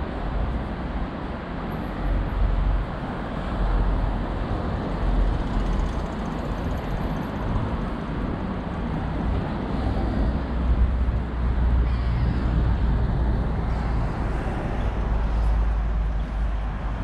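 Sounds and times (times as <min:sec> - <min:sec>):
cars passing with low rumble: 0:00.0 - 0:17.0.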